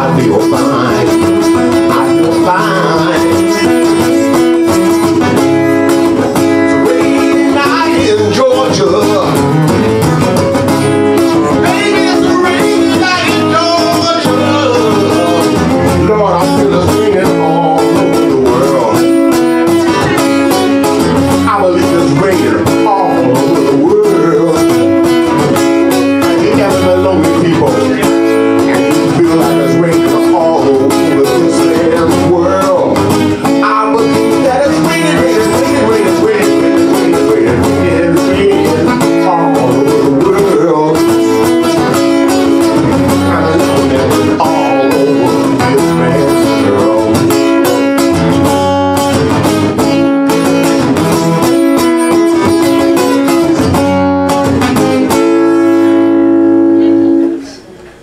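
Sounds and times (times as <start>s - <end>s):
man singing: 0.0s - 56.4s
acoustic guitar: 0.0s - 58.0s.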